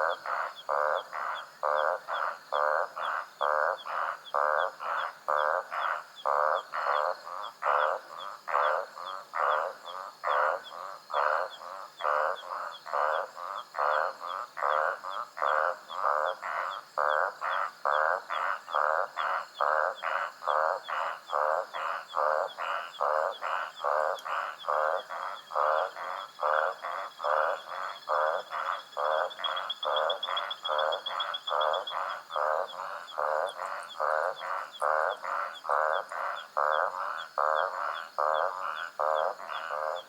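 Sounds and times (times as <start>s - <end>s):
frogs calling: 0.0s - 40.0s.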